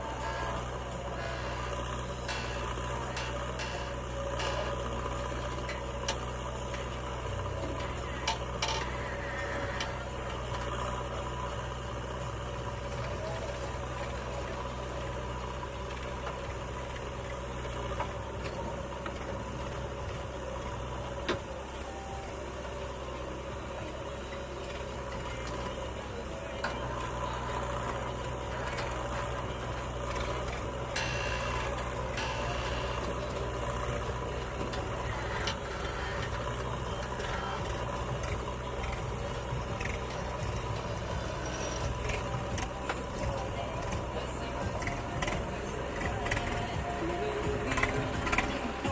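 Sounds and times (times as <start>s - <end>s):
diesel engine running at low revs: 0.0s - 48.9s.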